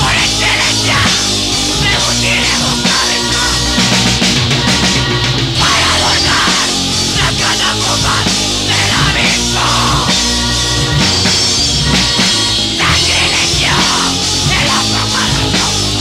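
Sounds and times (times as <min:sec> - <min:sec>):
black metal band playing: 0:00.0 - 0:16.0.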